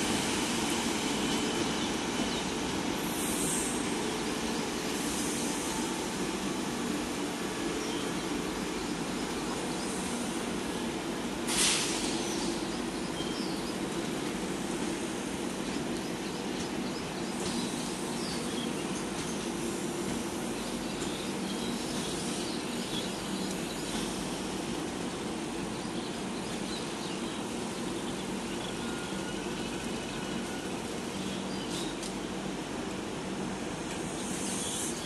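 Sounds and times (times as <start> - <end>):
train coaches rumbling past: 0.0 - 35.0.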